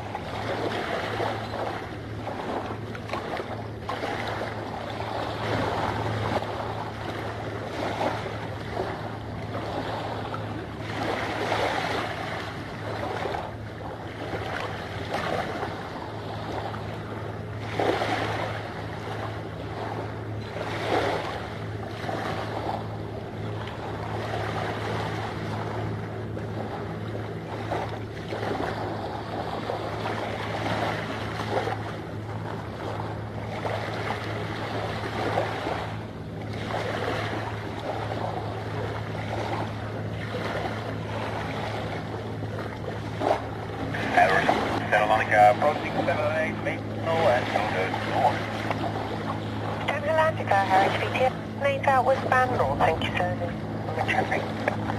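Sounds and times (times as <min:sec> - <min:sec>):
steady low hum: 0:00.0 - 0:54.9
water lapping at the shore: 0:00.0 - 0:54.9.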